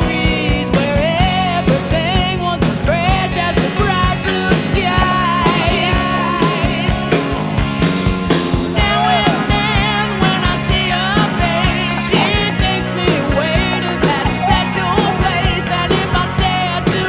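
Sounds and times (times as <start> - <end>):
rock music: 0.0 - 17.0
steady drum beat: 0.0 - 17.0.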